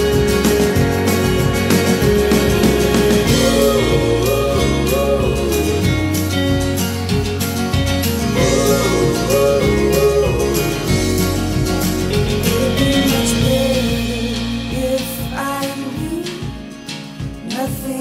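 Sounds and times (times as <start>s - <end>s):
pop song with singing: 0.0s - 18.0s.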